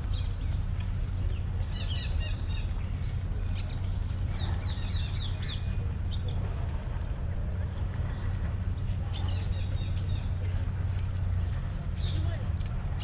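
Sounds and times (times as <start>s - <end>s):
low rumble of city: 0.0s - 13.0s.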